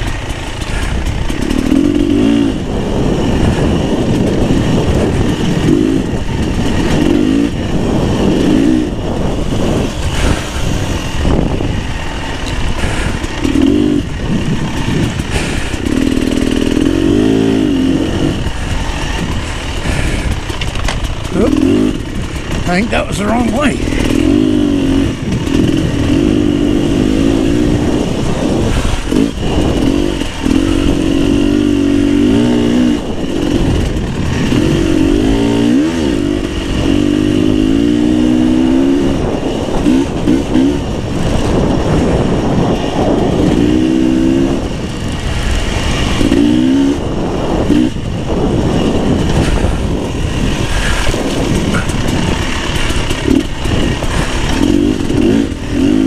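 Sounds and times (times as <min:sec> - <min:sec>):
two-stroke motorcycle engine: 0:00.0 - 0:56.0.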